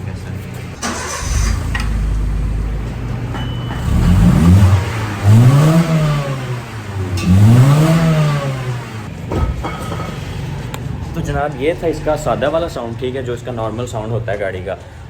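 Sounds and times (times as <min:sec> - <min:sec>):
car engine idling and revving: 0:00.0 - 0:09.3, 0:10.2 - 0:15.0.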